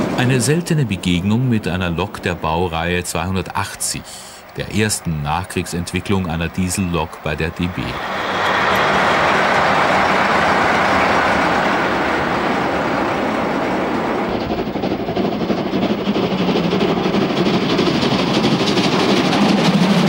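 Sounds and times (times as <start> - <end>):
diesel locomotive passing: 0.0 - 20.0
steam locomotive rhythmic pulsing: 0.0 - 20.0.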